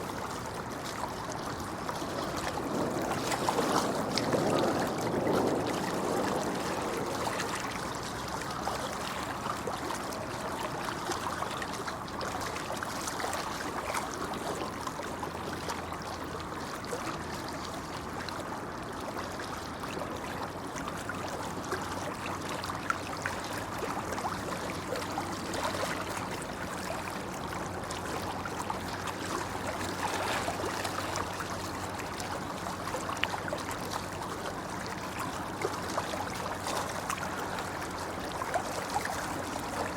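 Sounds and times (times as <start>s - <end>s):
babbling brook flowing: 0.0s - 39.9s.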